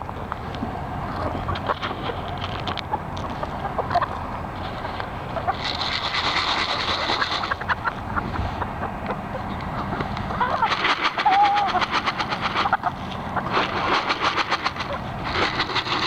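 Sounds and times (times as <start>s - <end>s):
chickens clucking and squawking: 0.0s - 16.0s.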